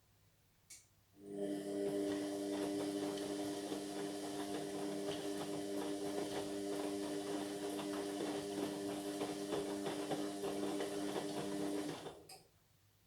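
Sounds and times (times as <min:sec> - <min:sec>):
washing machine running: 0:01.2 - 0:12.3.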